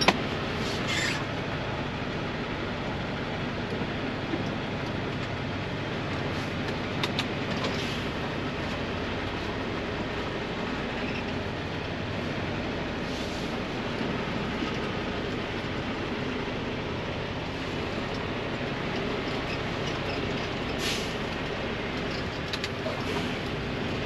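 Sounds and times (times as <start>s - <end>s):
diesel engine rumble: 0.0s - 24.0s.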